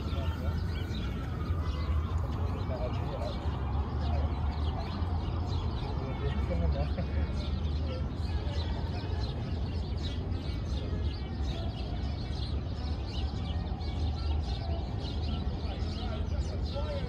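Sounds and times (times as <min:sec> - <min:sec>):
low city hum: 0:00.0 - 0:17.0
small birds chirping: 0:00.0 - 0:17.0.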